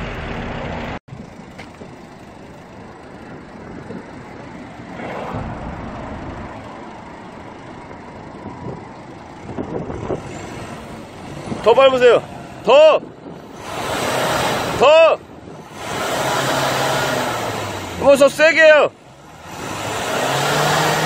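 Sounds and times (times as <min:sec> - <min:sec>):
diesel exhaust at tailpipe: 0:00.0 - 0:21.0.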